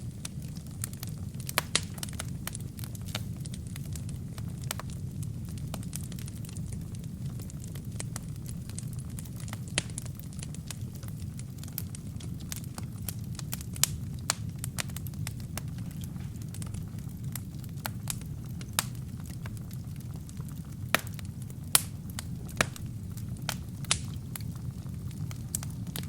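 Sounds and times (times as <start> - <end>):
fire crackling and popping: 0.0 - 26.0
fire rumbling: 0.0 - 26.0.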